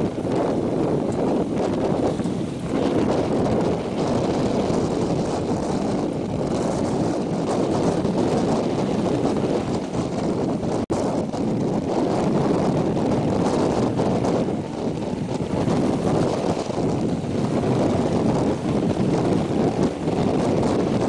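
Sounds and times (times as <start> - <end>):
passenger train running: 0.0 - 21.0
wind rushing over microphone: 0.0 - 21.0.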